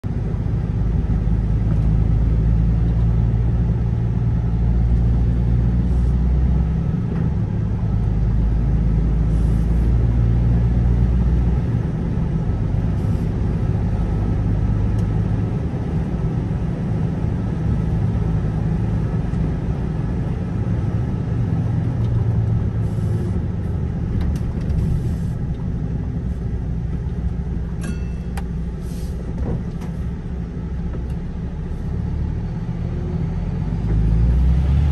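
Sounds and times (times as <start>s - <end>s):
road noise: 0.0s - 34.9s
vehicle engine drone: 0.0s - 34.9s.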